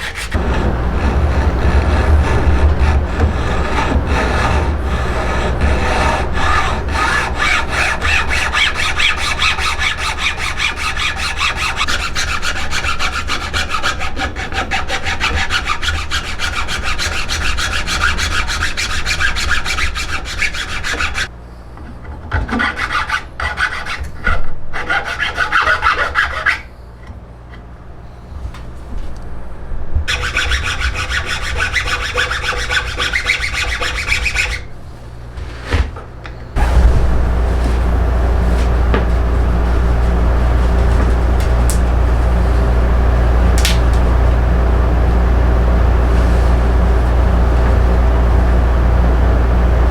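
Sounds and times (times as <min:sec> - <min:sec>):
rasp filing wood: 0:00.0 - 0:21.3, 0:22.3 - 0:26.7, 0:30.1 - 0:34.7, 0:36.6 - 0:49.9.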